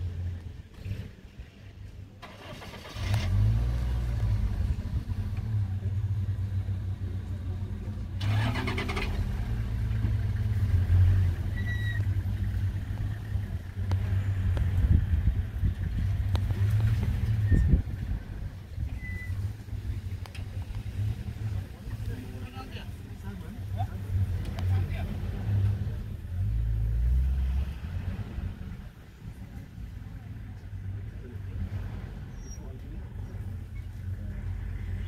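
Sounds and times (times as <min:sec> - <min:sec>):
vehicle engine starting and running: 0:00.0 - 0:35.0.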